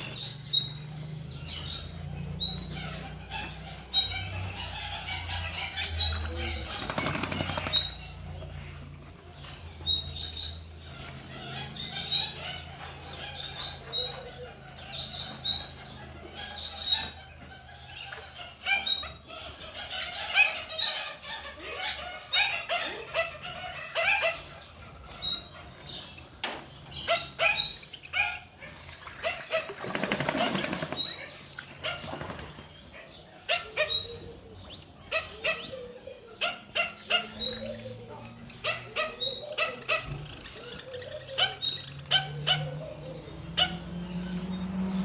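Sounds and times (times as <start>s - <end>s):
birds chirping and calling: 0.0s - 45.0s.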